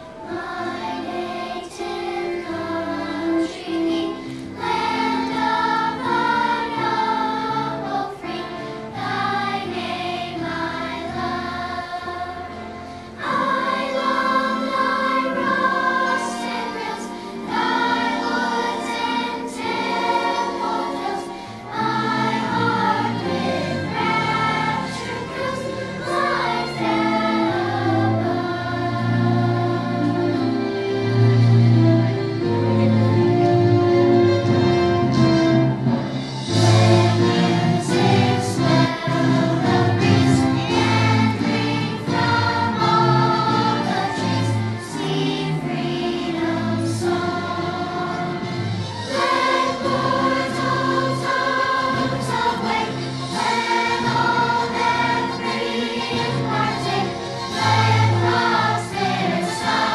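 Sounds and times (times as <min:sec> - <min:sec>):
children's choir singing: 0:00.0 - 0:59.9
instrumental accompaniment: 0:00.0 - 0:59.9.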